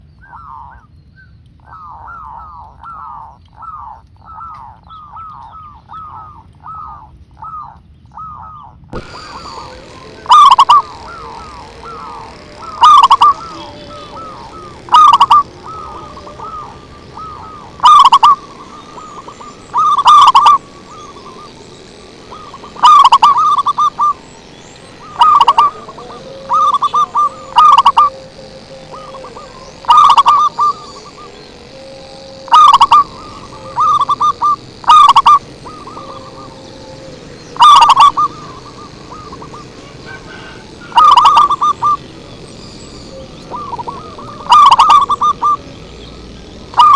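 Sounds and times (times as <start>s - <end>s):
dove cooing: 0.0s - 0.9s, 1.6s - 46.9s.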